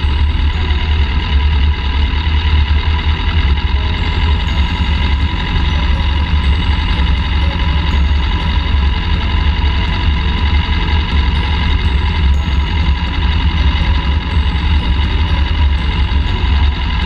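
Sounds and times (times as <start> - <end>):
aircraft engine and propeller: 0.0 - 17.0.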